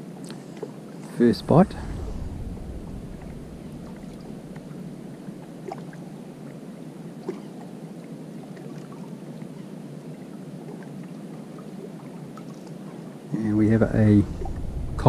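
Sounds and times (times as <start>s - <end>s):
calm water at shoreline: 0.0s - 15.0s
light wind: 0.0s - 15.0s.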